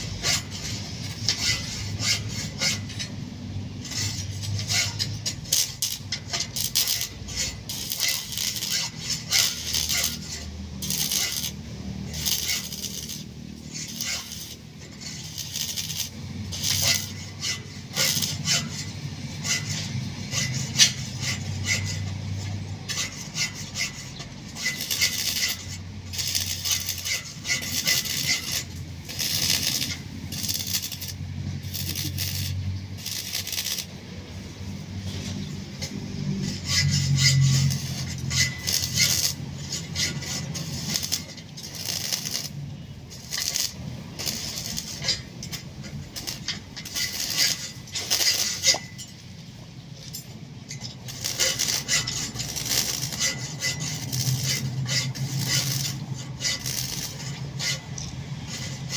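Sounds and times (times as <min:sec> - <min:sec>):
metal tools scraping and clinking: 0:00.0 - 0:58.9.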